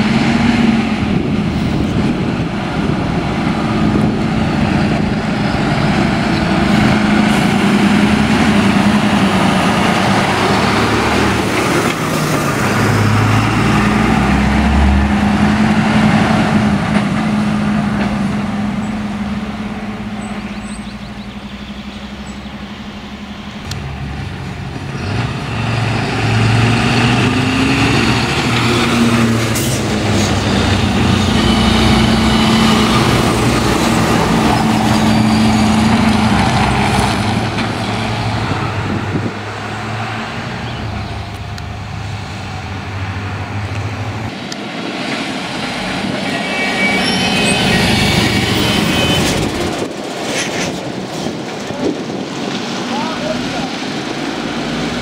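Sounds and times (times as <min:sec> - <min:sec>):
diesel trucks driving past: 0:00.0 - 0:55.0.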